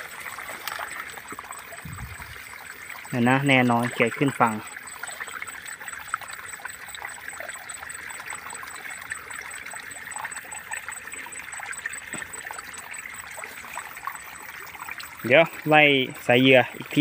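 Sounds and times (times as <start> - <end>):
shallow water trickling: 0.0 - 17.0.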